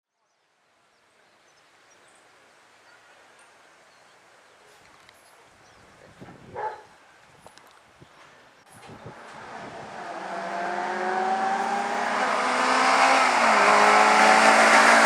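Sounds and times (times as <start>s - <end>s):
low outdoor hiss: 0.1s - 15.0s.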